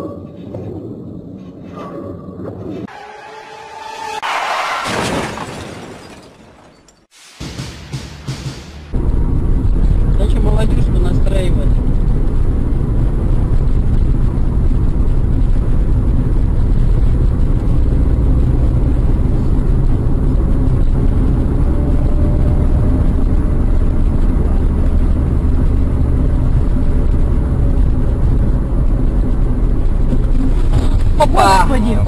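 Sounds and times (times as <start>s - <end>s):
road noise: 0.0s - 32.0s
car engine rumble: 3.8s - 32.0s.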